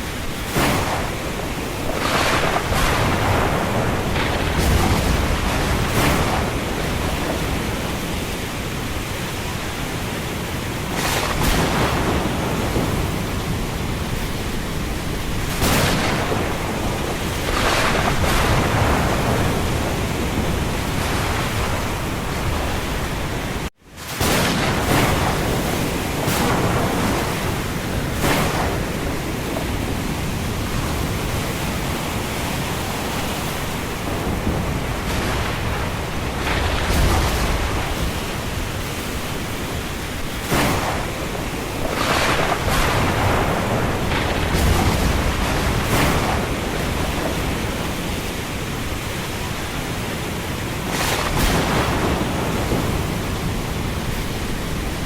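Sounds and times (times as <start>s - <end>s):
rain falling: 0.0s - 55.0s
thunder: 0.4s - 9.8s, 10.8s - 49.7s, 50.8s - 55.0s.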